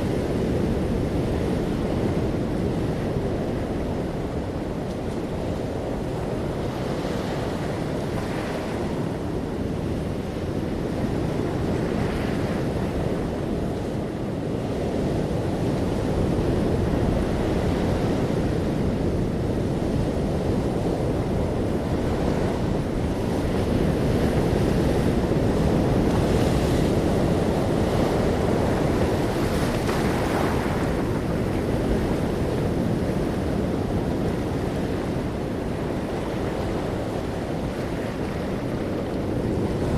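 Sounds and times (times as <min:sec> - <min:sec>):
ocean waves breaking: 0:00.0 - 0:39.9
wind: 0:00.0 - 0:39.9.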